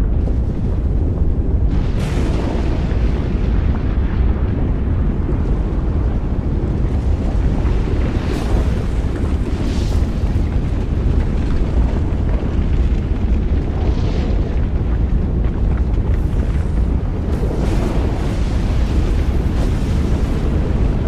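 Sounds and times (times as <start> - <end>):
deep rumble of lava: 0.0 - 21.0.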